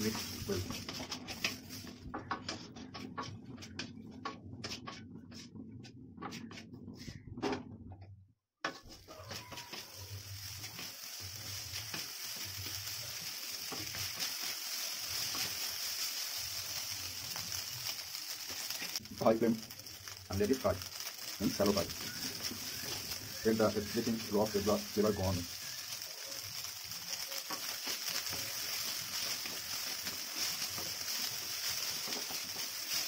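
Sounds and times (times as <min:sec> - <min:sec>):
rice sizzling: 0:00.0 - 0:02.6, 0:08.7 - 0:33.0.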